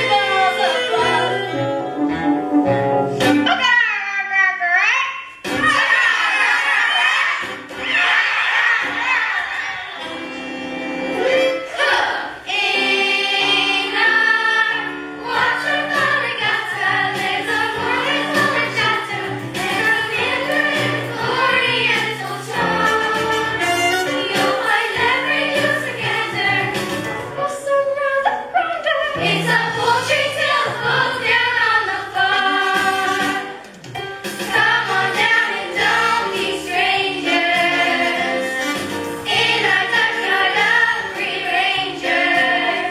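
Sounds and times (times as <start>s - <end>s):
instrumental backing music: 0.0s - 3.8s, 7.1s - 42.9s
chorus singing show tune: 5.4s - 33.7s, 34.4s - 42.9s.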